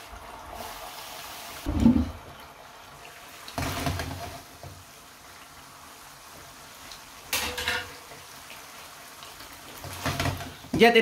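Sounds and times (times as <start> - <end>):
sauce sizzling in a frying pan: 0.0 - 11.0.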